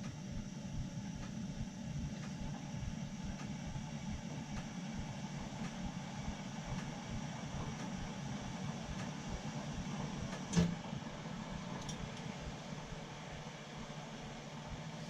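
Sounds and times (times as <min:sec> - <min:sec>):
boiler-room equipment humming: 0:00.0 - 0:15.0.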